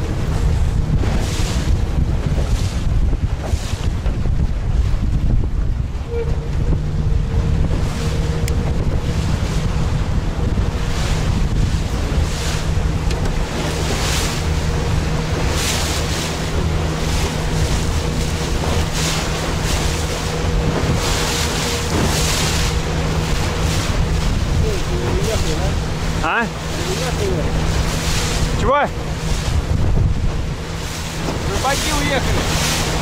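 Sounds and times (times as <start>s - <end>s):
waves splashing against boat: 0.0s - 33.0s
wind buffeting microphone: 0.0s - 33.0s.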